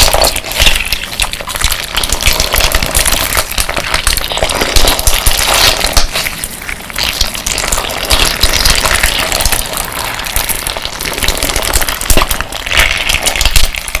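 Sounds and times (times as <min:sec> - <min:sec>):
slime squishing and crackling: 0:00.0 - 0:14.0.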